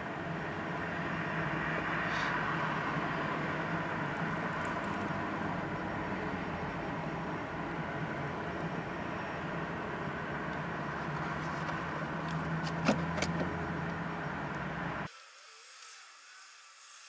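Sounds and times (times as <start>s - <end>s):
low vehicle hum: 0.0s - 15.1s
street traffic: 0.0s - 15.1s.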